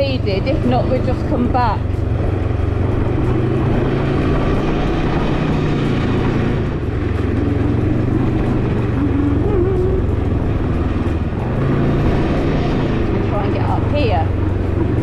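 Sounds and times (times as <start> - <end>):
motorcycle engine running slowly: 0.0 - 15.0.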